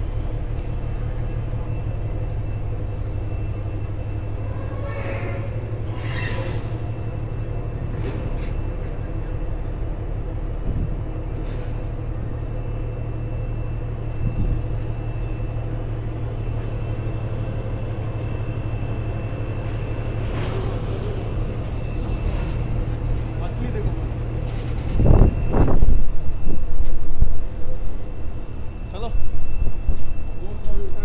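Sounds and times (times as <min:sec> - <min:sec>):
ship engine drone: 0:00.0 - 0:31.0.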